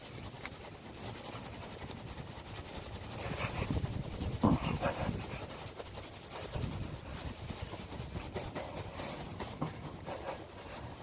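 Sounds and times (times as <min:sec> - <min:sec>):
can being shaken: 0:00.0 - 0:11.0.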